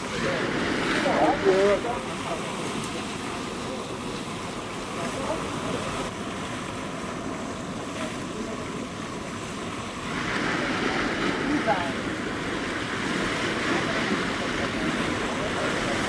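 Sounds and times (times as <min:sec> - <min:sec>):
water and waves: 0:00.0 - 0:16.0.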